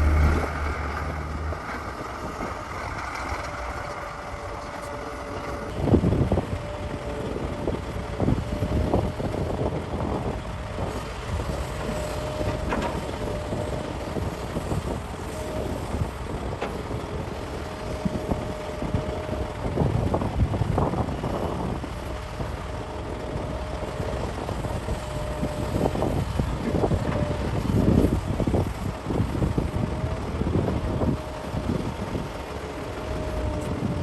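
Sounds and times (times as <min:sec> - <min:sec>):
heavy diesel machinery whine: 0:00.0 - 0:34.0.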